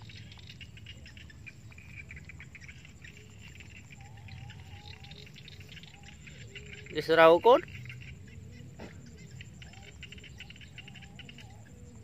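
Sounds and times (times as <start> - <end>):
faint bird calls: 0.0 - 12.0
insects chirring: 0.0 - 12.0.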